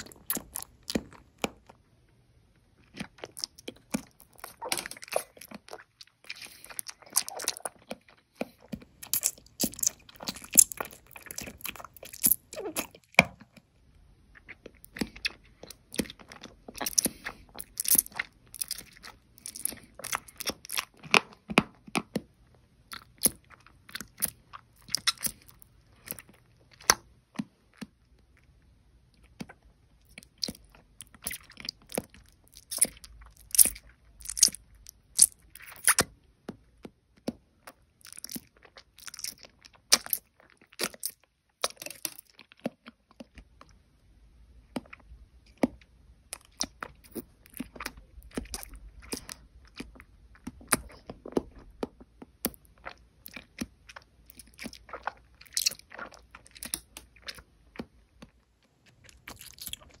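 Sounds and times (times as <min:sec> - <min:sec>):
jelly candies crunching: 0:00.0 - 0:01.8, 0:02.6 - 0:13.7, 0:14.4 - 0:22.3, 0:22.9 - 0:28.0, 0:29.2 - 0:36.2, 0:37.2 - 0:43.6, 0:44.7 - 1:00.0.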